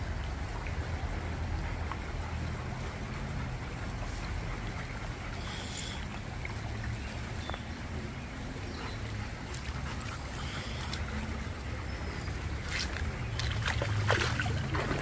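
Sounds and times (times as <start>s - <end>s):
low constant rumble: 0.0s - 15.0s
stream water rushing: 0.0s - 15.0s.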